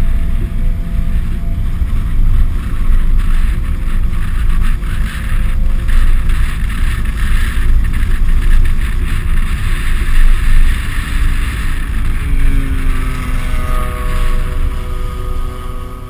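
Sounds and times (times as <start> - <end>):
car engine low rumble: 0.0 - 16.0
wind noise on microphone: 0.0 - 16.0.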